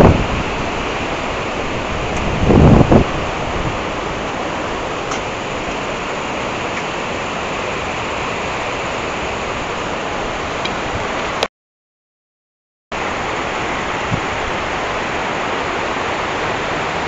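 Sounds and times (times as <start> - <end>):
rushing river: 0.0 - 11.5, 13.0 - 17.0.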